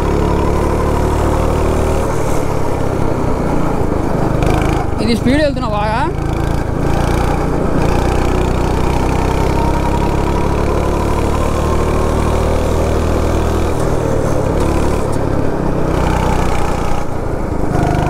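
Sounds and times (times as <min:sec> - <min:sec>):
go-kart engine revving: 0:00.0 - 0:18.0.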